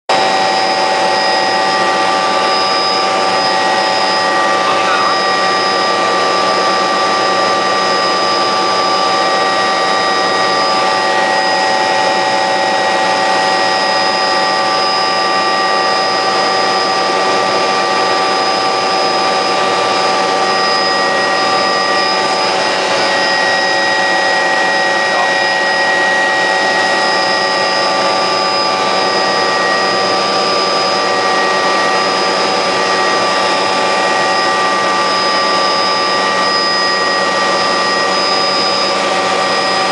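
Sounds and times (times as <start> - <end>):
helicopter engine whine: 0.1 - 39.9.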